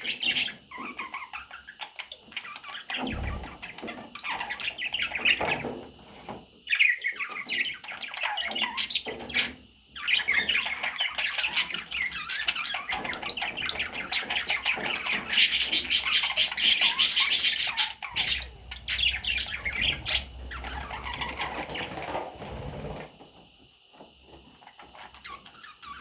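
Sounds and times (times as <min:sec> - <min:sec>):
baby budgerigars squawking and chirping: 0:00.0 - 0:23.1, 0:24.4 - 0:26.0.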